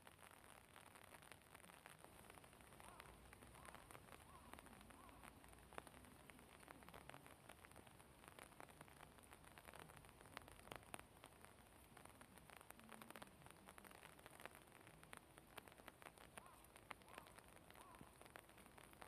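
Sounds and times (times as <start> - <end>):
light hiss: 0.0 - 19.0
soft clicks and crackles: 0.0 - 19.0.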